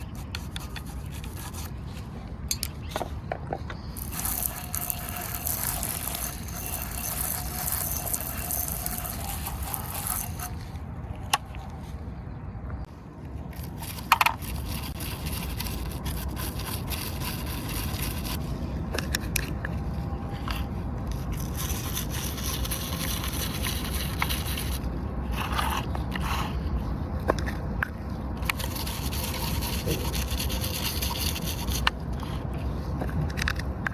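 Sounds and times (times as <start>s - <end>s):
scraping and scrubbing toy car: 0.0s - 3.2s, 3.8s - 12.0s, 13.4s - 33.9s.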